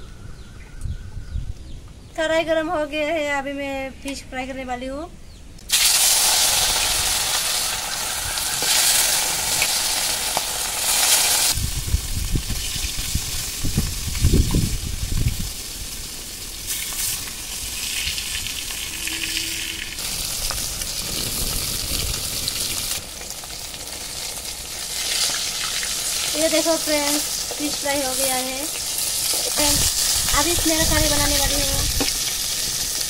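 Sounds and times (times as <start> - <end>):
fish sizzling in hot oil: 5.7 - 33.0.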